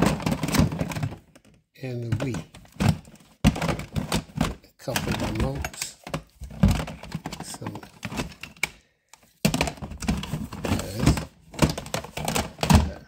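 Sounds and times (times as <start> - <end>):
plastic cartridges clacking: 0.0 - 13.0.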